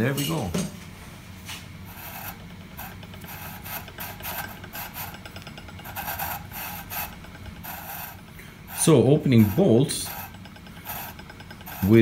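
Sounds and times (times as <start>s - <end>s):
nut grating on bolt threads: 1.9s - 12.0s.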